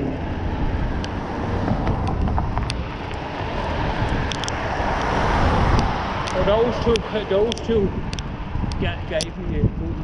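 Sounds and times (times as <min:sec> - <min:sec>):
passing cars: 0:00.0 - 0:10.0
wind rushing over microphone: 0:00.0 - 0:10.0.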